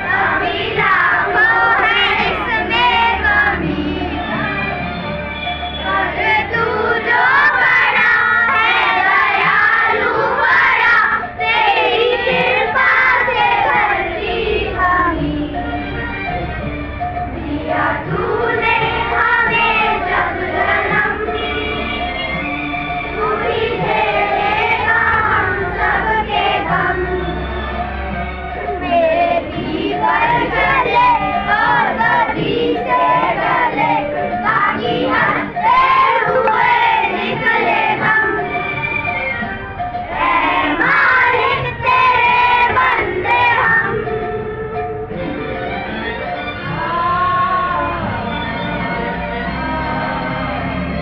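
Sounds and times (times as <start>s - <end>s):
children singing in unison: 0.0s - 45.3s, 46.6s - 51.0s.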